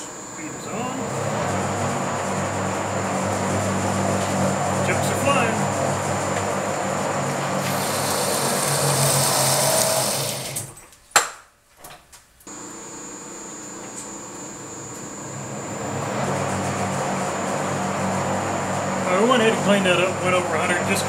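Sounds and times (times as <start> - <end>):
high-pitched motor whine: 0.0 - 10.4, 12.5 - 21.0
lathe cutting steel: 0.0 - 10.6, 12.5 - 21.0.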